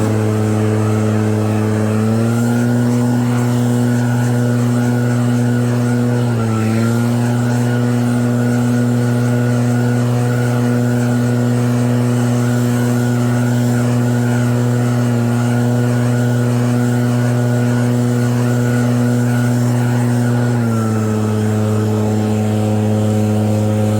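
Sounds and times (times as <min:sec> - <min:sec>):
snow blower engine running: 0:00.0 - 0:23.9.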